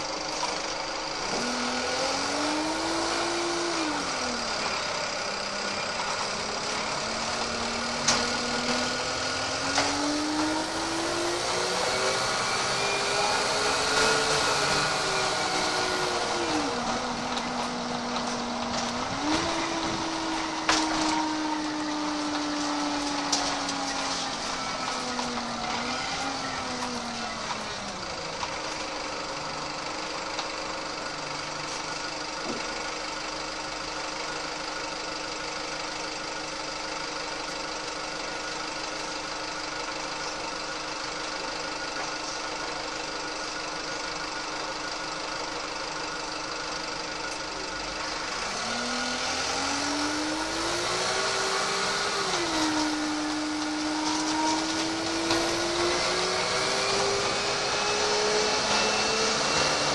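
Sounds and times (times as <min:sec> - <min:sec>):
bus diesel engine: 0:00.0 - 0:59.9.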